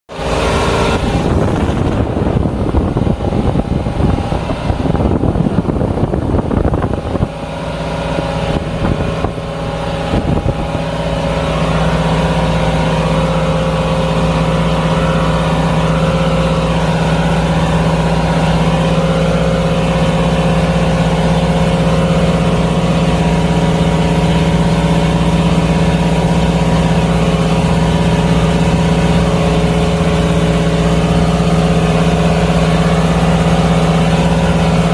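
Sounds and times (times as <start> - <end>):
marine engine running: 0.1 - 34.9.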